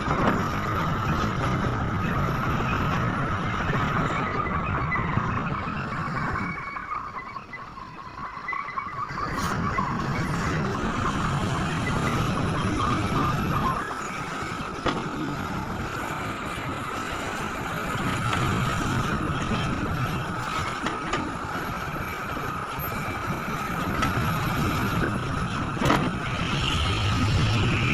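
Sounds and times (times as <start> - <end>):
excavator diesel engine under load: 0.0 - 27.9.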